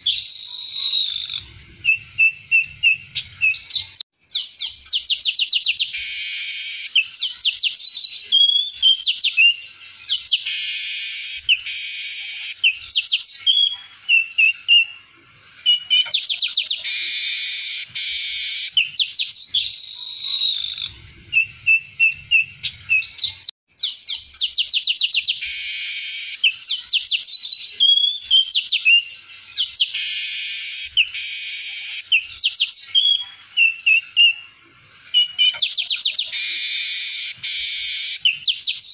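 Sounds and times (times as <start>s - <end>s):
weaver bird singing: 0.0s - 38.9s.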